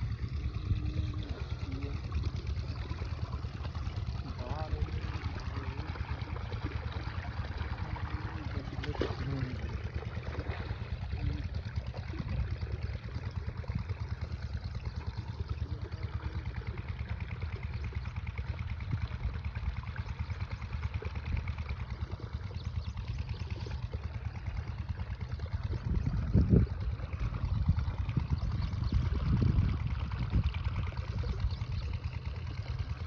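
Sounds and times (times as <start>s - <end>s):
diesel pump engine running: 0.0s - 33.0s.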